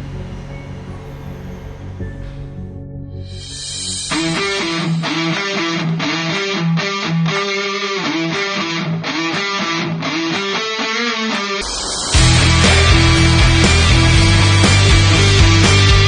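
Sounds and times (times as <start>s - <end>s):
electric guitar strumming chords: 0.0s - 16.0s.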